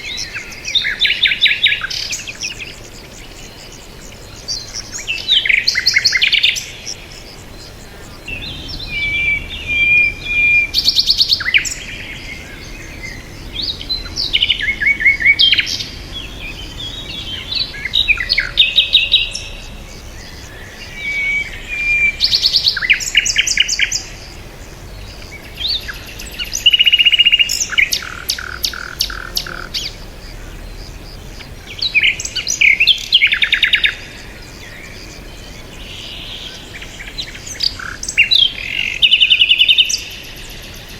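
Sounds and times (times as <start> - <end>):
bird song chirps and trills: 0.0 - 40.9.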